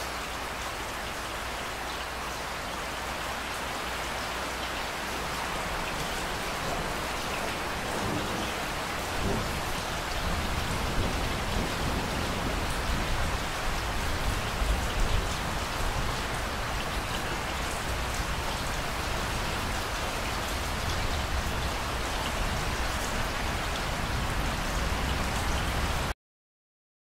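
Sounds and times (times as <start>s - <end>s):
steady rain falling: 0.0s - 26.2s.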